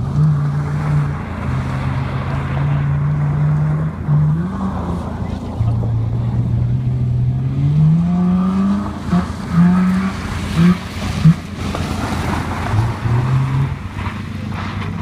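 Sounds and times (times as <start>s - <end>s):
car engine revving hard: 0.0s - 15.0s.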